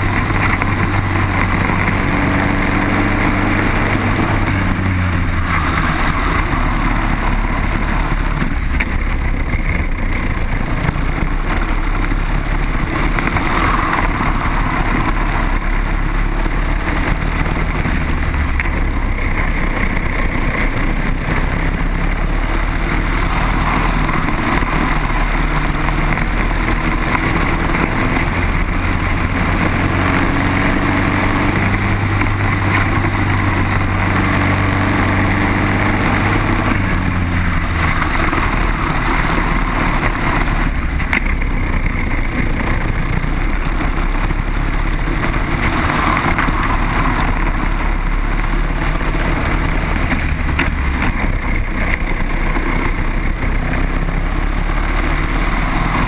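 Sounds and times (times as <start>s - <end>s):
kart engine at racing speed: 0.0s - 56.0s
wind rushing over microphone: 0.0s - 56.0s.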